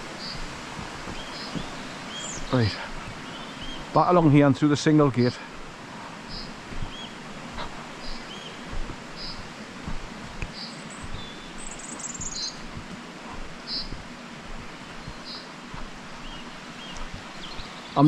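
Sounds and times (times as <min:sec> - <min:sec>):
running water hiss: 0:00.0 - 0:18.0
soft footsteps on a path: 0:00.0 - 0:18.0
small bird chirping: 0:00.1 - 0:04.1, 0:06.2 - 0:18.0.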